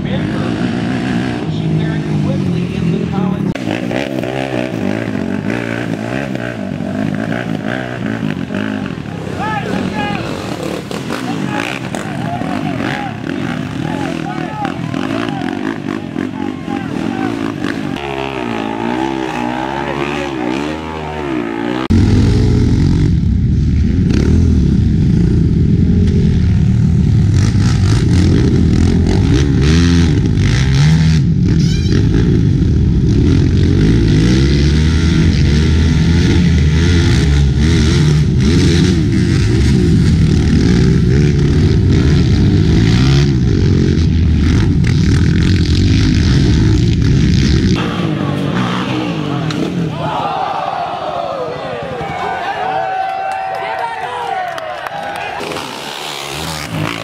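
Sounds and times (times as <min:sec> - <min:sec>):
atv engine revving: 0:00.0 - 0:51.1, 0:54.9 - 0:57.0
racing quad engines: 0:00.0 - 0:57.0.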